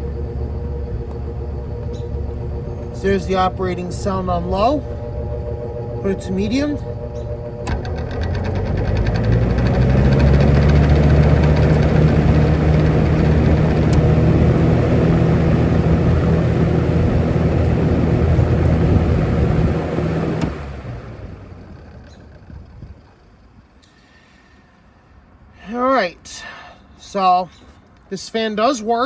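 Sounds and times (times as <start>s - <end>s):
fan motor hum: 0.0s - 24.3s.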